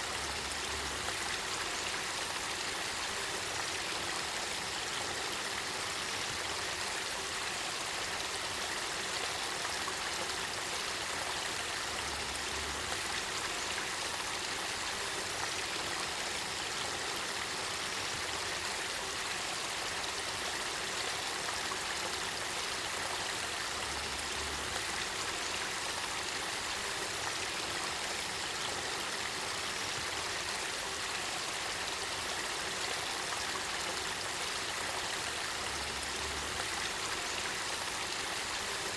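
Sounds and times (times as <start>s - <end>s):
river water flowing and burbling: 0.0s - 38.9s.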